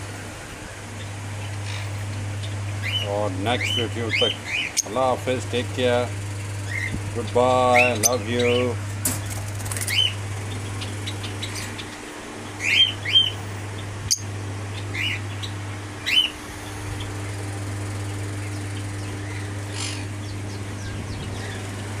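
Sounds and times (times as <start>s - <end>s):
lovebirds chirping: 0.0s - 22.0s
low hum: 0.0s - 22.0s.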